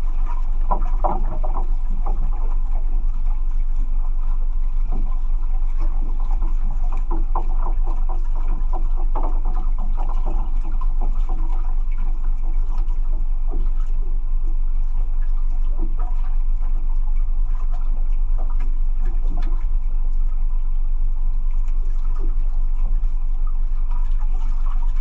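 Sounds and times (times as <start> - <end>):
low rumble: 0.0 - 25.0
water lapping around boat: 0.0 - 25.0.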